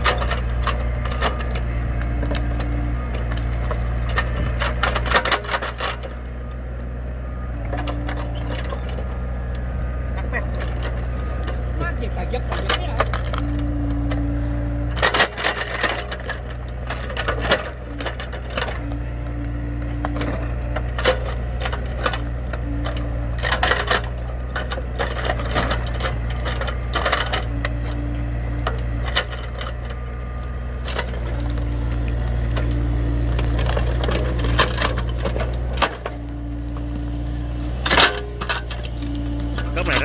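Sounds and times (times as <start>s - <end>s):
excavator engine running: 0.0s - 40.0s
hydraulic humming tone: 0.0s - 40.0s.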